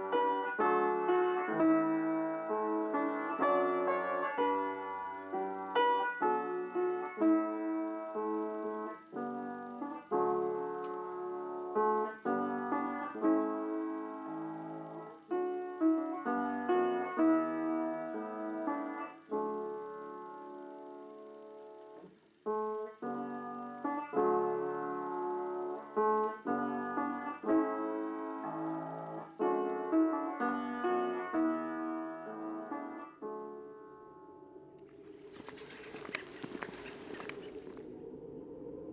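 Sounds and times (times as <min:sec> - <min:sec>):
piano music: 0:00.0 - 0:37.7.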